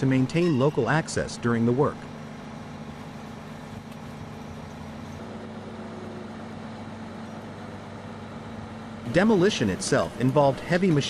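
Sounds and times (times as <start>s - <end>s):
heavy machinery engine drone: 0.0s - 11.0s.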